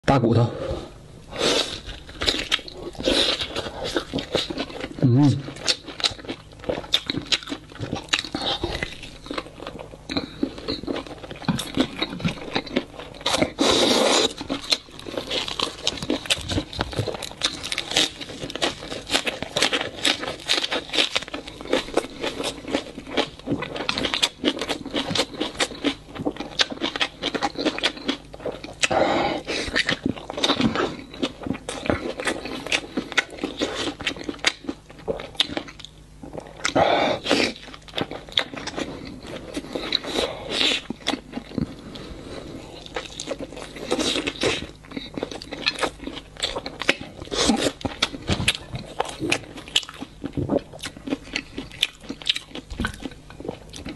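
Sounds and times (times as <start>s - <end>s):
man chewing meat off bones: 1.3s - 53.9s.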